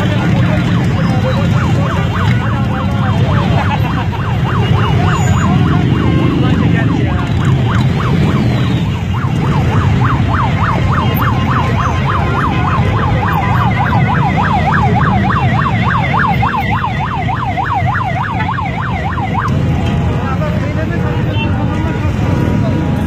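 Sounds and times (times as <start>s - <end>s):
police siren yelping: 0.0s - 20.7s
motorcycle engines rumbling: 0.0s - 23.0s
higher-pitched siren yelp: 0.3s - 19.6s.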